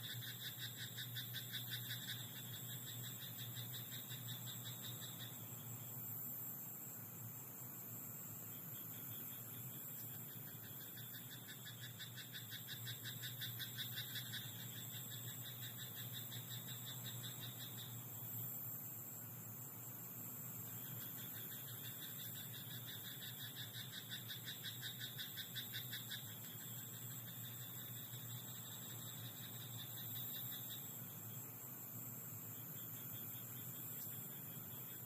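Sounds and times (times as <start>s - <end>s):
frogs croaking in chorus: 0.0s - 6.6s, 8.3s - 19.0s, 19.6s - 35.0s.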